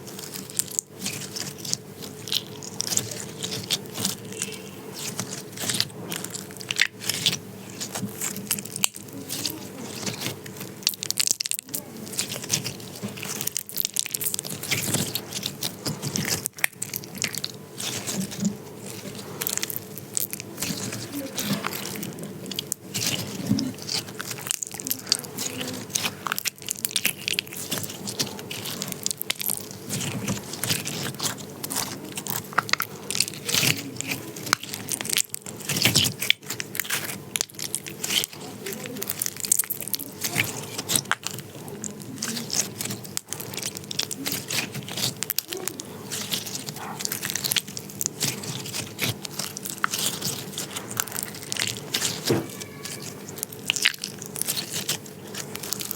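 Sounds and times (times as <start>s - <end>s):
slime squishing with sticky pops: 0.0s - 55.9s.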